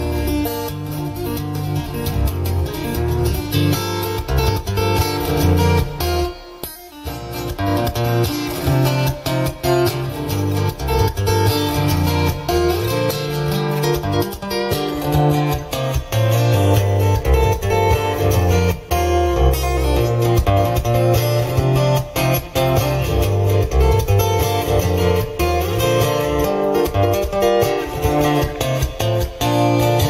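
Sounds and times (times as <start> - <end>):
bass line: 0.0 - 6.4, 7.1 - 30.0
strummed acoustic guitar music: 0.0 - 30.0.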